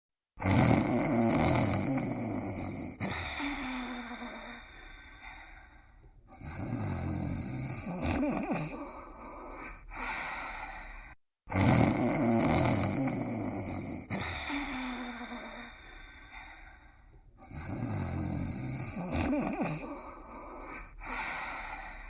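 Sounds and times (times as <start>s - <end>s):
cartoon dogs snoring: 0.4s - 4.8s, 6.3s - 10.1s, 11.5s - 16.6s, 17.4s - 22.0s.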